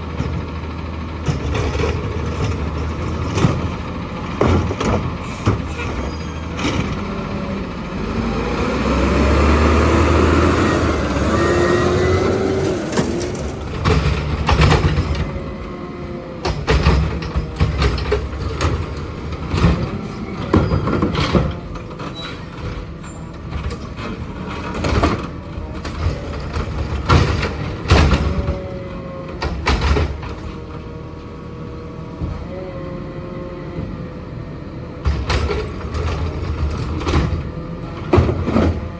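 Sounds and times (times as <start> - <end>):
garbage truck engine revving: 0.0 - 38.9.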